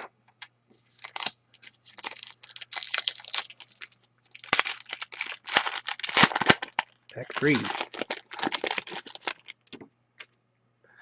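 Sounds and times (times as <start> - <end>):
foil card wrapper crinkling: 0.9 - 9.8.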